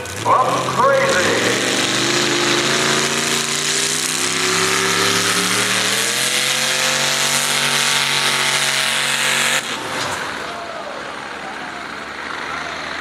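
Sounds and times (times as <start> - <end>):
tractor engine revving hard: 0.0 - 13.0.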